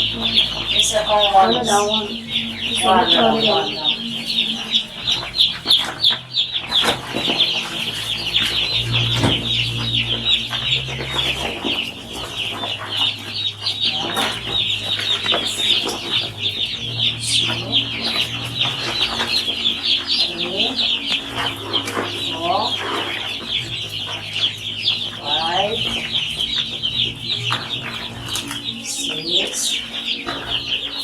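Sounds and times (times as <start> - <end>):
chicks peeping: 0.0 - 31.0.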